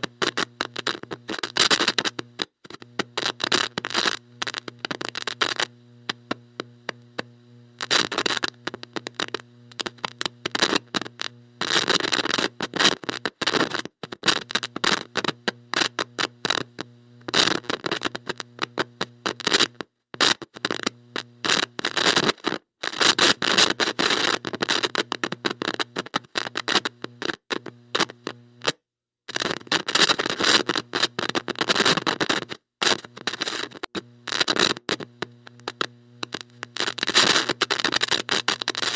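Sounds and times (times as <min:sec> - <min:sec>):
static crackle bursts: 0:00.0 - 0:38.9.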